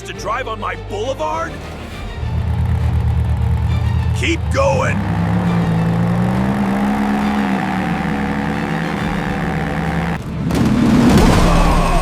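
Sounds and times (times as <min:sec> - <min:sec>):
vehicle engine running: 0:01.4 - 0:11.2.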